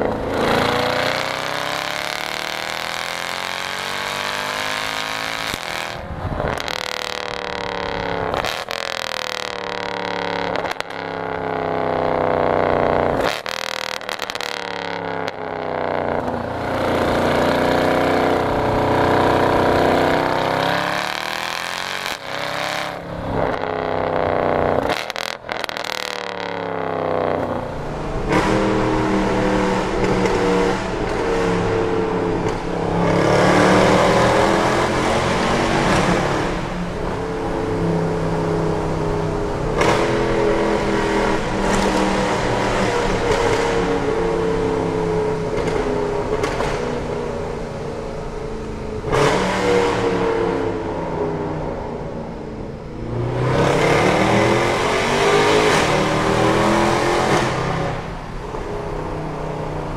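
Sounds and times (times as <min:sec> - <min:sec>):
car engine revving: 0:00.0 - 0:47.9, 0:48.6 - 0:59.9.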